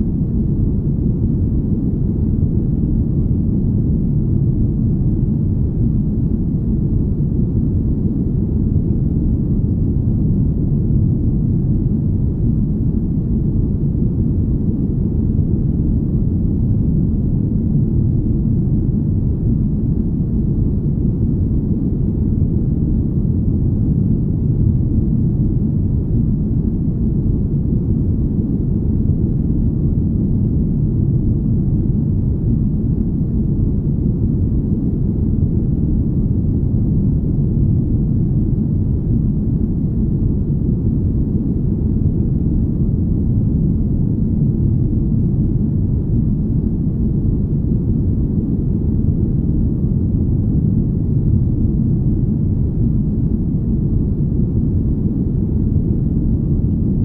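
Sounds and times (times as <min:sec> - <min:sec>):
deep smooth rumble: 0:00.0 - 0:57.0.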